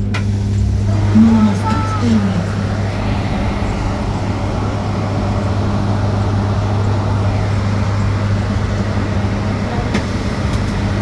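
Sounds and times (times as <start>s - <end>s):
bus cabin hum and rumble: 0.0s - 11.0s.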